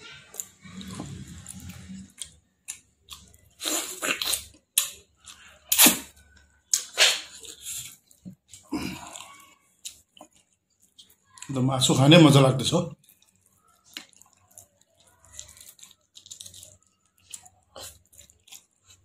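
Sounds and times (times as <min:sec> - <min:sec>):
wet chewing sounds: 0:00.0 - 0:11.6, 0:13.0 - 0:19.0.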